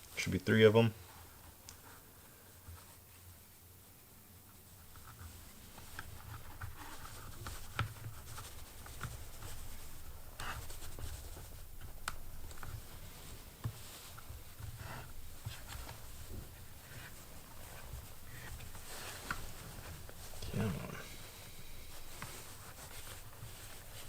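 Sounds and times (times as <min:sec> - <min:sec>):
scratching and rubbing on plastic: 0:01.0 - 0:24.0.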